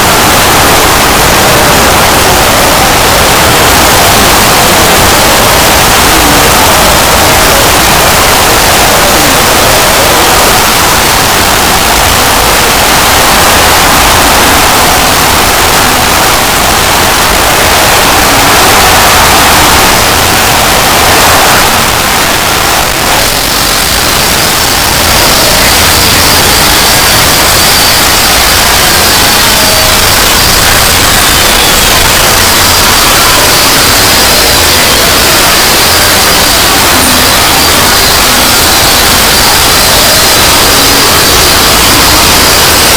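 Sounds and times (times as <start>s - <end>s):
harsh distorted static: 0.0s - 42.9s.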